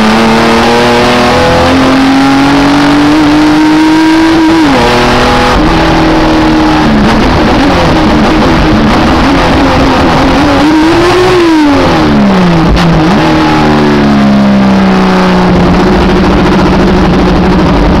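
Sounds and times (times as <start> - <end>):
race car engine revving: 0.0 - 18.0
road and wind noise: 0.0 - 18.0.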